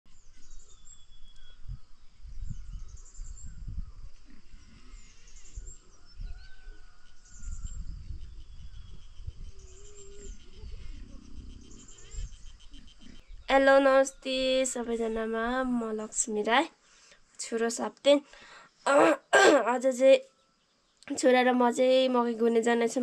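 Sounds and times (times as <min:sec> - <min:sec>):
birds chirping trills: 0:00.1 - 0:23.0.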